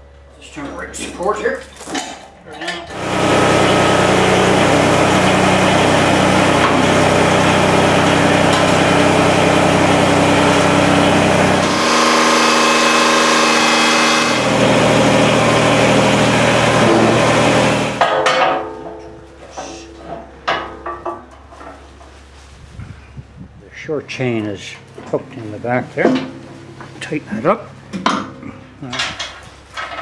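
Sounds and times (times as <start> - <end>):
tractor diesel engine running: 2.9 - 18.0, 18.8 - 30.0.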